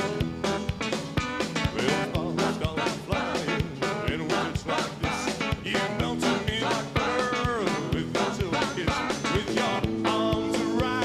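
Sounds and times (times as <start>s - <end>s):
drum kit beat: 0.0s - 11.0s
electric and acoustic guitars: 0.0s - 11.0s
person singing lead vocal: 1.7s - 11.0s.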